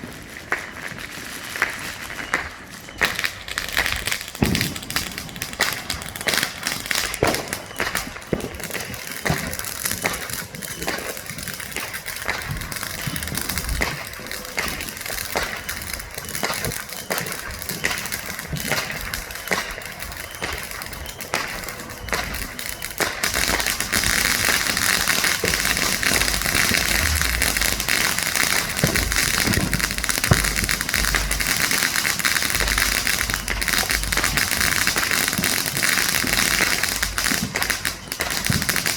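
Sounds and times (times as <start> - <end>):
dense fireworks crackling: 0.0 - 38.9
firecracker pops and bangs: 0.0 - 38.9
low fireworks booms: 0.0 - 38.9.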